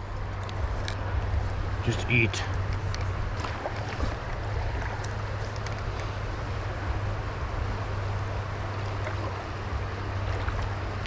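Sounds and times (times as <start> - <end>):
stream flowing: 0.0 - 11.0
wind rumble on microphone: 0.0 - 11.0.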